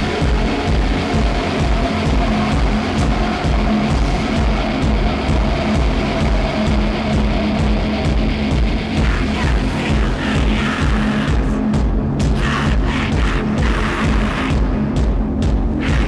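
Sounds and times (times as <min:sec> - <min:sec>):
low hum: 0:00.0 - 0:16.0
noisy electronic drone: 0:00.0 - 0:16.0.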